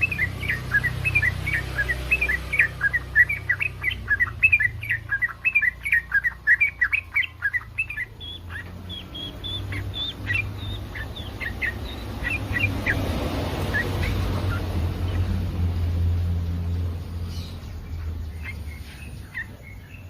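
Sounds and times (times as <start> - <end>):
bird chirping song: 0.0 - 20.0.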